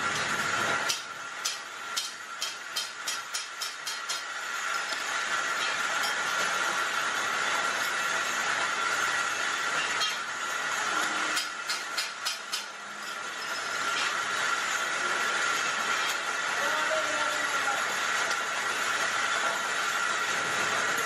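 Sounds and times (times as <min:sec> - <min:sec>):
lathe hissing with high whine: 0:03.9 - 0:21.0.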